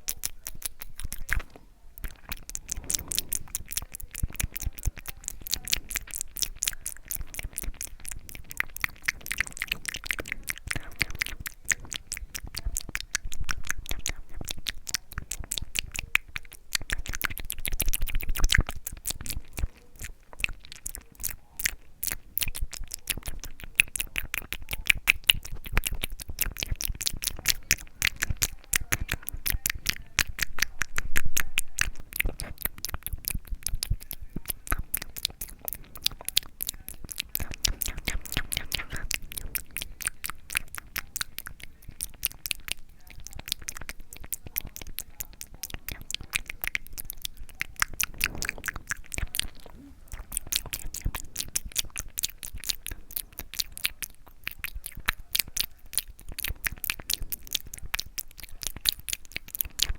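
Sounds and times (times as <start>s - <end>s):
wet mouth clicks and smacks: 0.0s - 59.9s.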